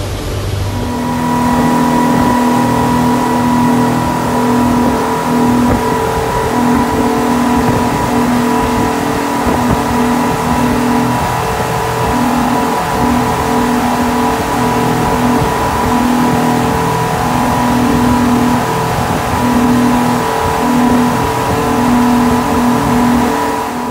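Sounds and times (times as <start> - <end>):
outboard engines droning: 0.0 - 23.9
water rushing from wake: 0.0 - 23.9.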